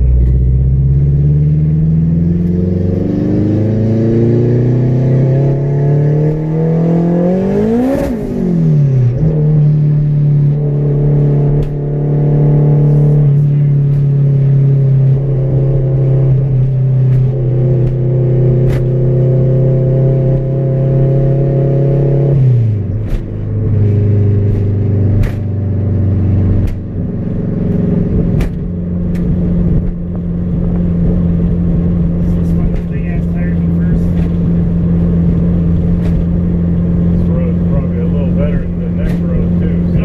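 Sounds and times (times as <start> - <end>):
car engine from inside cabin: 0.0 - 40.0.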